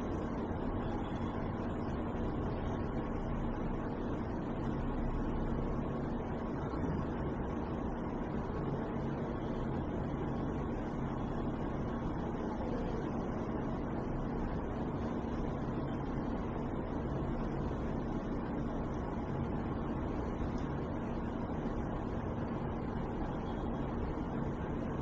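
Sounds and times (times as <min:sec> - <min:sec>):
faint constant tone: 0:00.0 - 0:25.0
low mechanical hum and rumble: 0:00.0 - 0:25.0.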